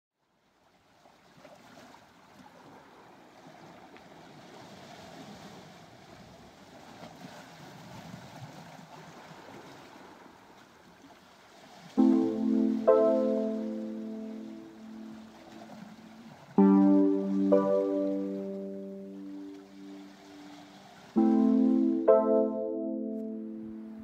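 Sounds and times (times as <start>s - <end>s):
sea and wind on shore: 0.4s - 24.0s.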